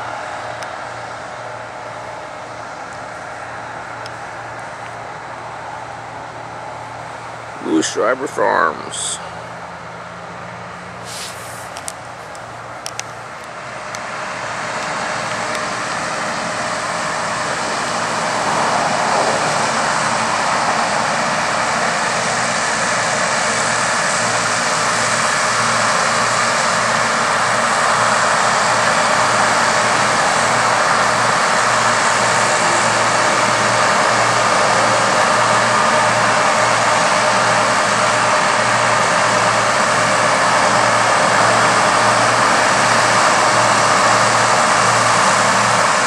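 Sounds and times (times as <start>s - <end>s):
combine harvester drone: 0.0s - 46.0s.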